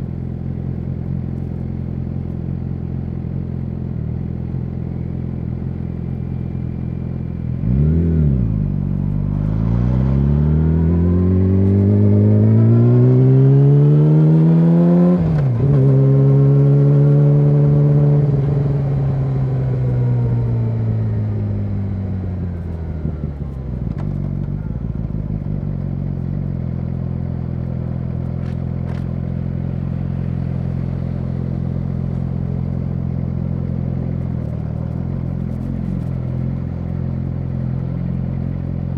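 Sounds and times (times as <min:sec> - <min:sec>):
motorcycle engine revving: 0:05.6 - 0:38.9.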